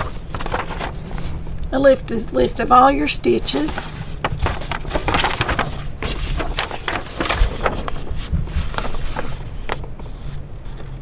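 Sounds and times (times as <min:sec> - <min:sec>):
paper pages rustling: 0:00.0 - 0:01.5, 0:02.1 - 0:11.0.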